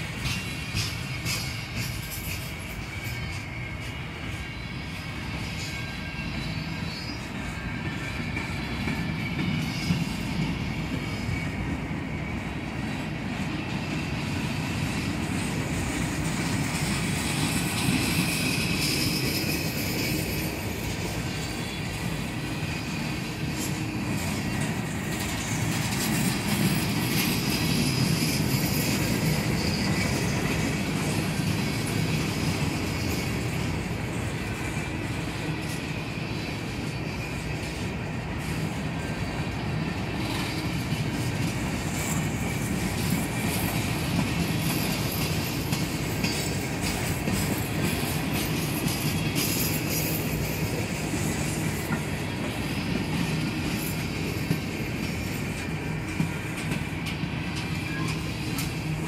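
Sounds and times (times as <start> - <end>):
freight train wheels rumbling: 0.0 - 59.0
high wheel squeal: 0.0 - 59.0.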